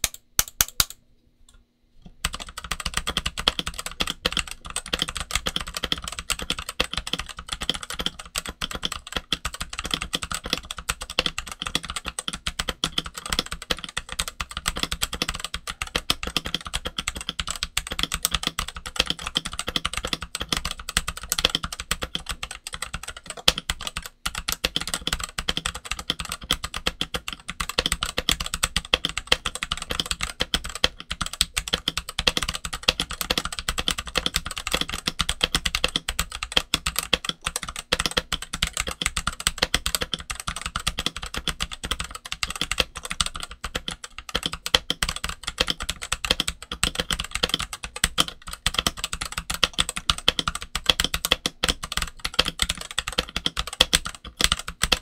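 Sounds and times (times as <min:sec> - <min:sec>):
mechanical keyboard typing: 0:00.0 - 0:01.0, 0:02.2 - 0:55.0.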